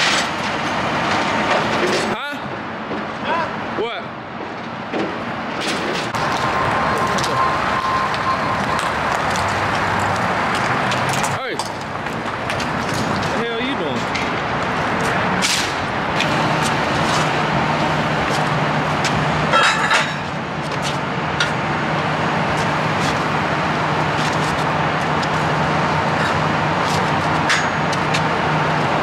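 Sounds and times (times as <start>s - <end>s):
road and traffic noise: 0.0s - 29.0s
vehicle engine humming: 0.0s - 29.0s.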